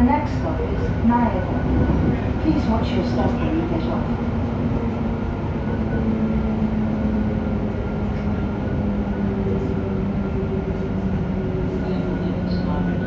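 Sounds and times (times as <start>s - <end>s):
rail rumble: 0.0s - 13.0s.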